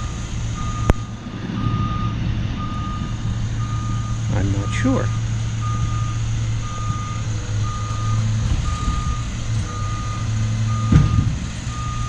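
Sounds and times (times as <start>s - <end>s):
low engine hum: 0.0s - 12.0s
reversing alarm beeping: 0.0s - 12.0s.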